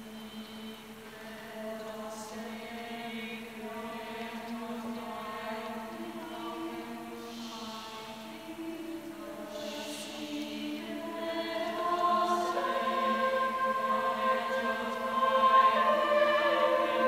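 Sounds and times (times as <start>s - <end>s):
mixed choir singing: 0.0s - 17.0s.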